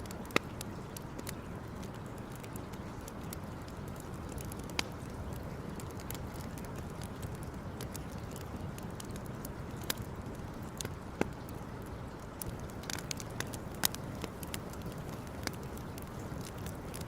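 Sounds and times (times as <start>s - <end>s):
burning wood popping: 0.0s - 17.0s.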